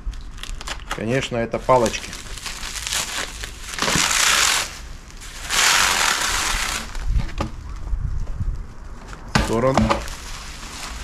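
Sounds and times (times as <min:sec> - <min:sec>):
packing material rustling: 0:00.0 - 0:07.8, 0:09.0 - 0:11.0.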